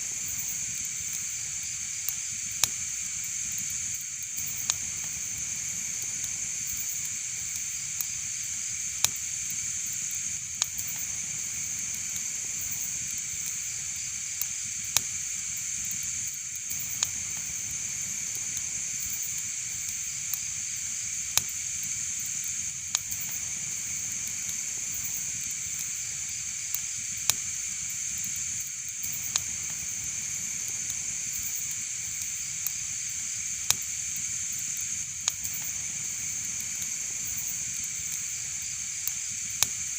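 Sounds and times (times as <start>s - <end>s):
steady fire hiss: 0.0s - 39.9s
wood fire crackling: 0.0s - 39.9s
sharp pops of fire: 0.1s - 39.9s.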